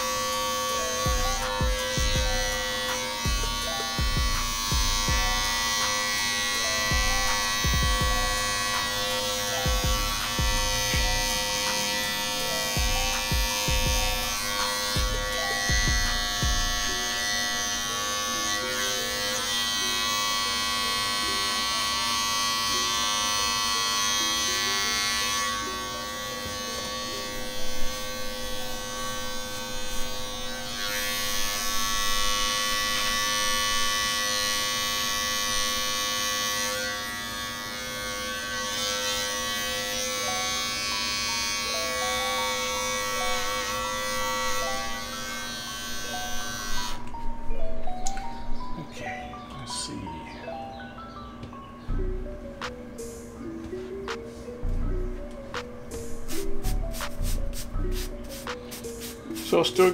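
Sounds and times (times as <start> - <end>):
hair clippers buzzing: 0.0 - 48.3, 54.8 - 59.9.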